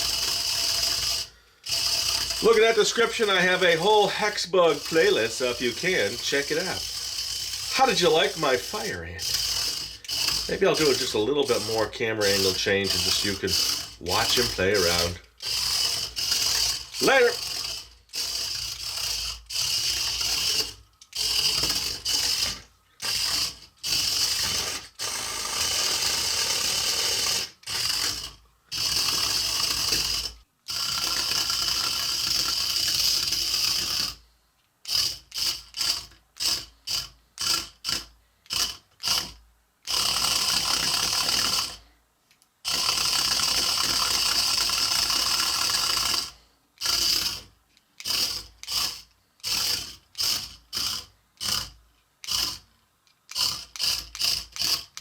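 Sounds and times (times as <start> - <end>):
toy robot motors and gears ratcheting: 0.0 - 42.0, 42.6 - 55.0.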